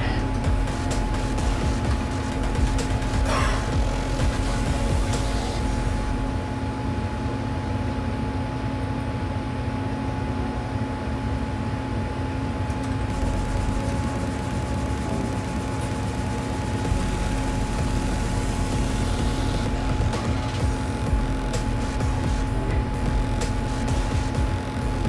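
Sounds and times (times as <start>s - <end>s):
laser engraver fans humming: 0.0s - 25.0s.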